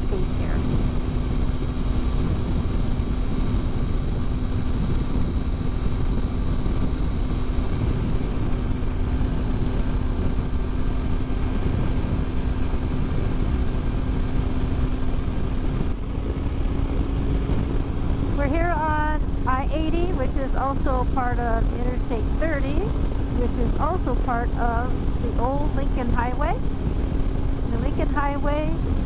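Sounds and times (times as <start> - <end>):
motorcycle engine cruising: 0.0 - 29.0
wind and road rumble: 0.0 - 29.0.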